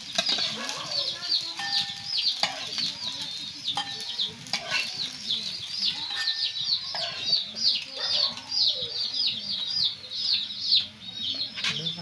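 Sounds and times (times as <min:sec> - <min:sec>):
birds chirping rapidly: 0:00.0 - 0:12.0.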